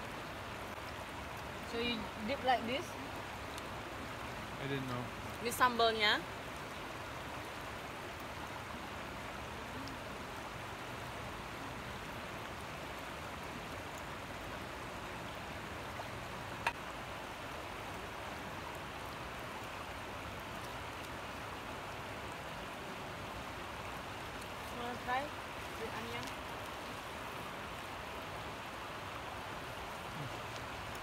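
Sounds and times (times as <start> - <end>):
water washing along gravel shore: 0.0 - 31.0.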